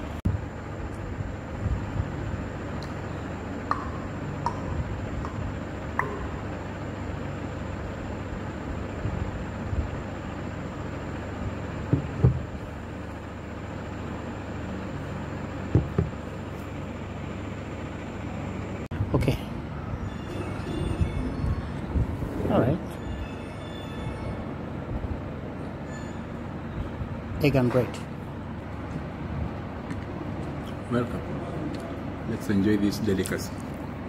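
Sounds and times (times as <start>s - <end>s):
low background rumble: 0.0s - 32.4s.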